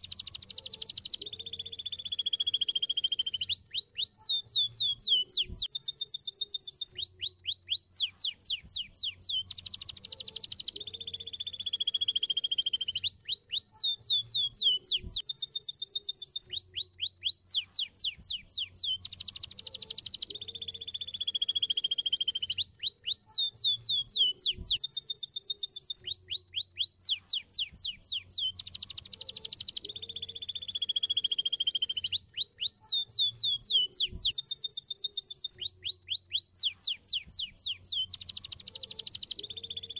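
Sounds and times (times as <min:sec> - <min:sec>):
canary singing trills and whistles: 0:00.0 - 0:39.9.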